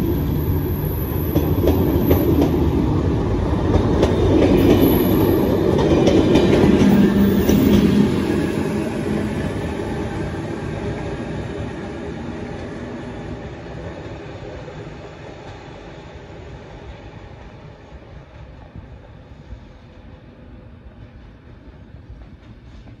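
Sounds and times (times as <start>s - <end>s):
train rumbling on track: 0.0s - 23.0s.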